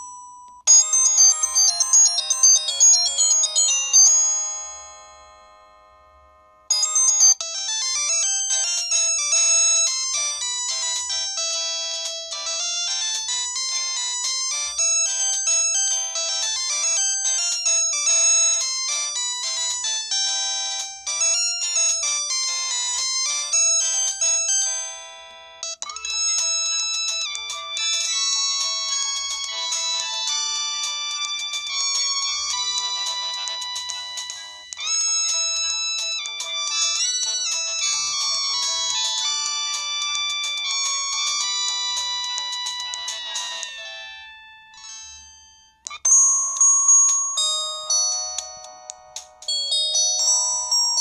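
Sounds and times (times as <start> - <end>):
polyphonic phone ringtones: 0.0 - 5.9, 6.7 - 51.0.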